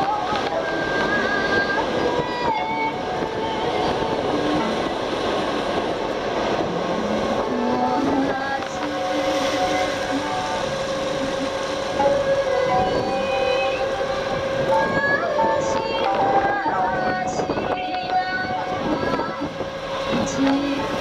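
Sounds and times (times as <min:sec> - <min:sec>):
ferry engine rumble: 0:00.0 - 0:21.0
wind on microphone: 0:00.0 - 0:21.0.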